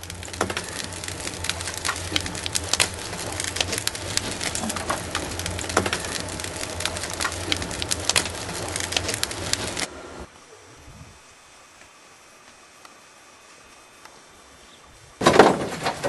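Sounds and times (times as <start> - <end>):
steady low hum: 0.0 - 16.0
wood fire crackling: 0.0 - 16.0.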